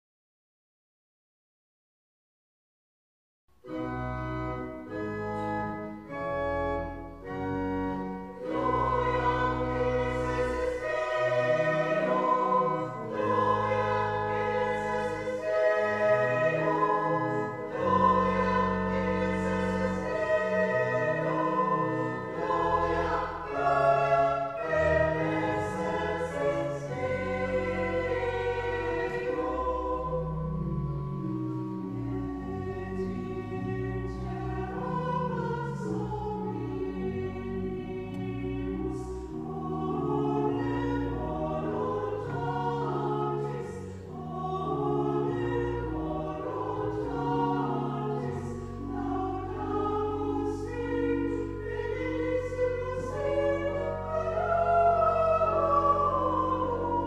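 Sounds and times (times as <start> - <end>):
pipe organ playing: 3.6 - 57.0
group of voices singing: 8.4 - 30.6, 32.4 - 57.0.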